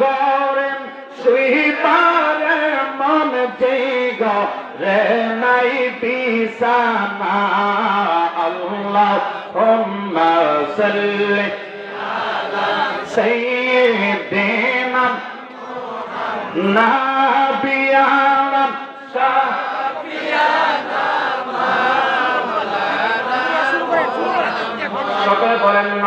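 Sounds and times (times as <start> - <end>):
man chanting melodically: 0.0 - 11.9, 12.8 - 20.0, 22.2 - 26.0.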